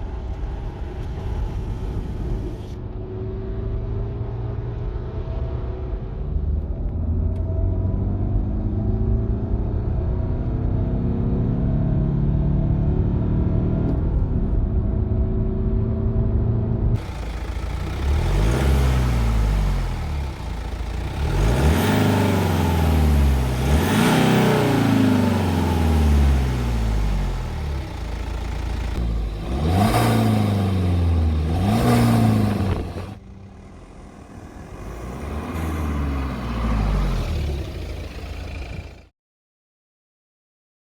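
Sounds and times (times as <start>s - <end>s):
car engine accelerating hard: 0.0s - 39.1s.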